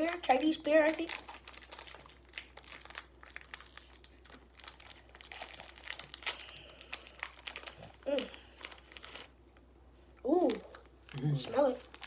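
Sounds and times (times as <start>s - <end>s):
plastic packaging crinkling: 0.0s - 9.5s, 10.4s - 12.0s.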